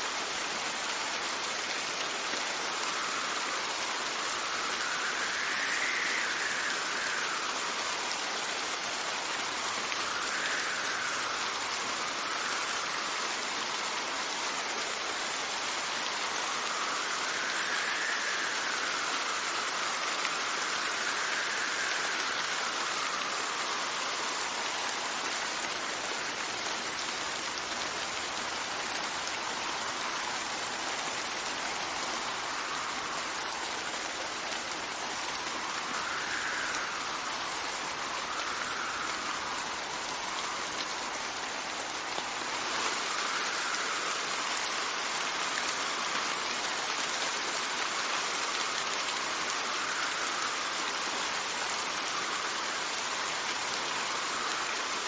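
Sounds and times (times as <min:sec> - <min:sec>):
steady rain: 0:00.0 - 0:55.0
wind gusts: 0:00.0 - 0:55.0.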